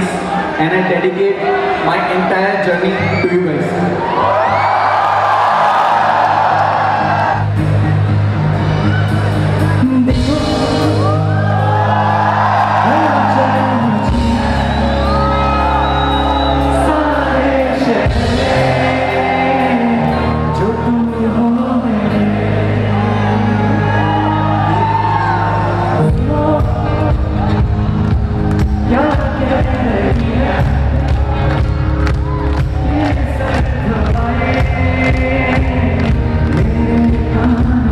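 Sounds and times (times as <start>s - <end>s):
crowd whooping and singing along: 0.0s - 37.9s
loud music with heavy bass: 6.1s - 37.9s.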